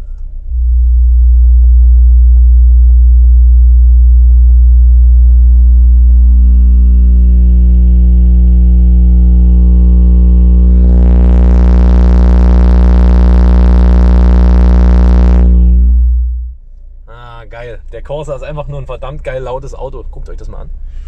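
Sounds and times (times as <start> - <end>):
subwoofer sine test tone: 0.0 - 21.0.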